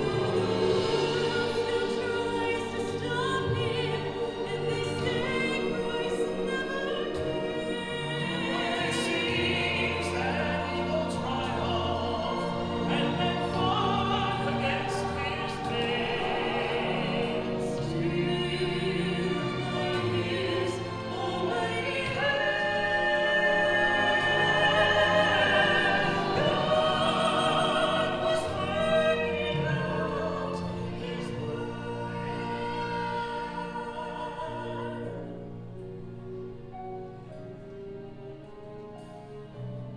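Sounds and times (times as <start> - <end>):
church choir singing: 0.0 - 39.9.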